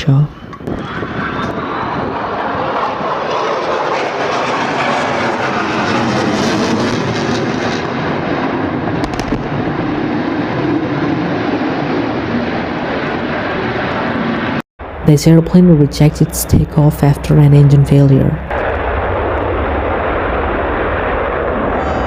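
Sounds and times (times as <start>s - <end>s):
jet engine rushing: 0.0s - 22.0s.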